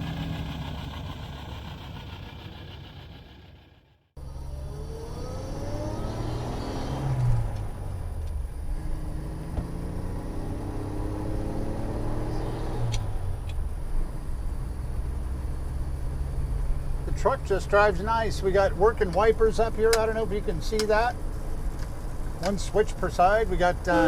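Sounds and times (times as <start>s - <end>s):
engine accelerating and shifting gears: 0.0s - 24.0s.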